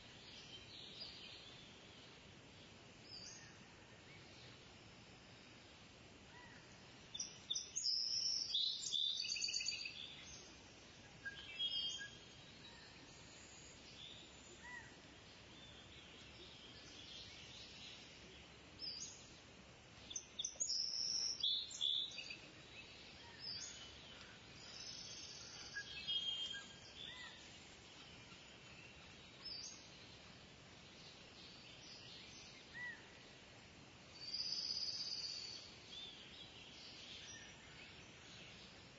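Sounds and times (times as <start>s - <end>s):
wild birds chirping: 0.0s - 38.9s.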